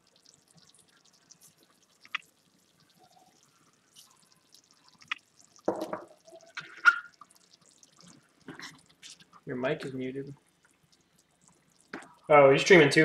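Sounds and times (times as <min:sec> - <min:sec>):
faint wet drips: 0:00.0 - 0:12.8.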